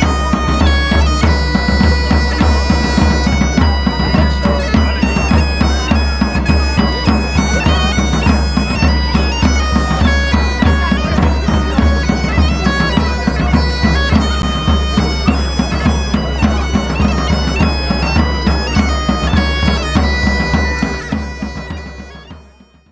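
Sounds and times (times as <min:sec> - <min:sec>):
large drums beating: 0:00.0 - 0:22.7
bagpipe melody with drones: 0:00.0 - 0:22.9.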